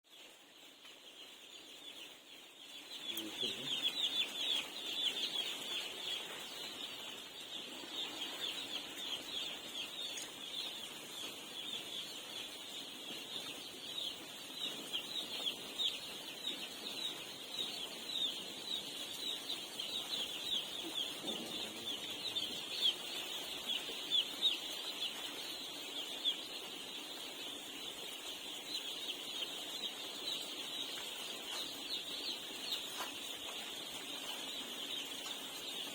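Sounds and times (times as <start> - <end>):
young chickens cheeping: 0.1 - 35.9.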